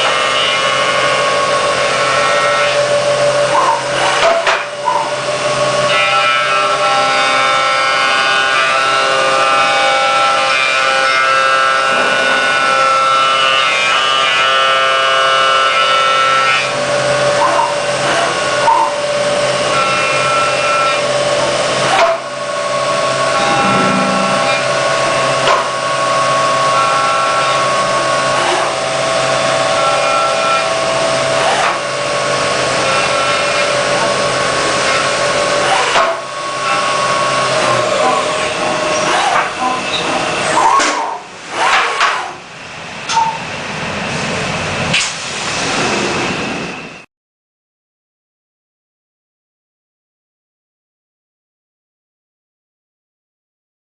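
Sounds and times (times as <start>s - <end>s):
milling machine whine: 0.0s - 47.0s.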